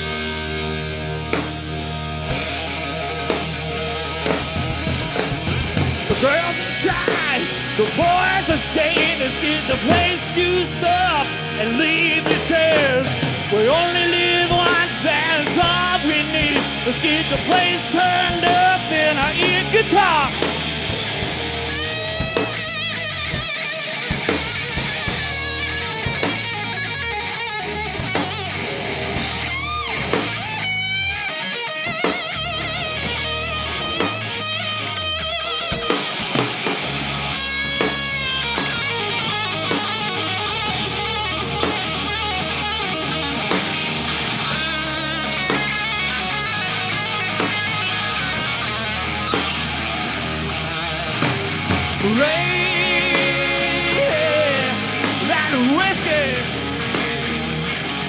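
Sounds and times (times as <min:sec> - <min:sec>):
drum kit beat: 0:00.0 - 0:58.0
guitar lead with bending notes: 0:00.0 - 0:58.0.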